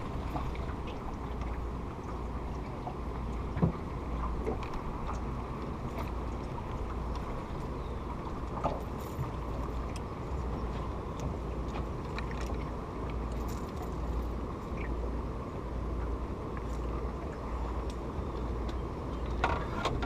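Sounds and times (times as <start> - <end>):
moving water around boat: 0.0 - 20.0
wind: 0.0 - 20.0.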